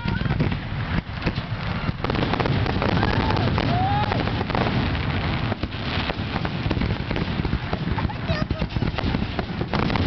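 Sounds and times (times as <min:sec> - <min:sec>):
firework whistles: 0:00.0 - 0:10.0
fireworks crackling: 0:00.0 - 0:10.0.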